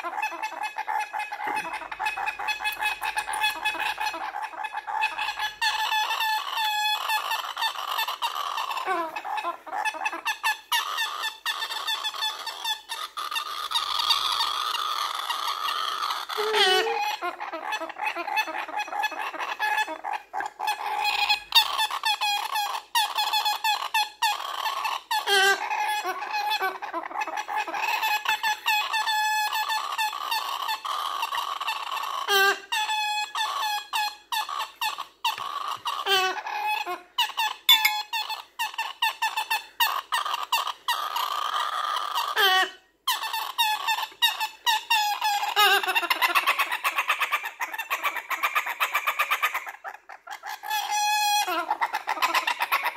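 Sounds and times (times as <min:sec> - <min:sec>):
baby parrot squeaky begging calls: 0:00.0 - 0:52.9.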